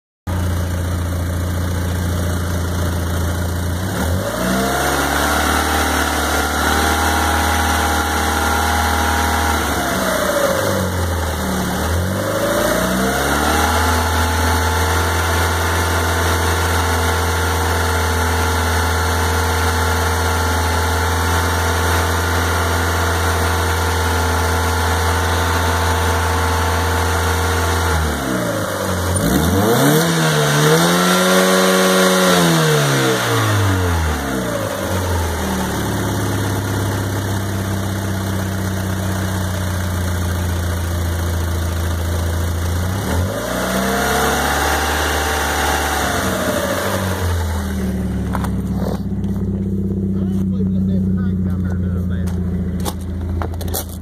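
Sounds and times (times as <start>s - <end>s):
car engine idling and revving: 0.3s - 54.0s.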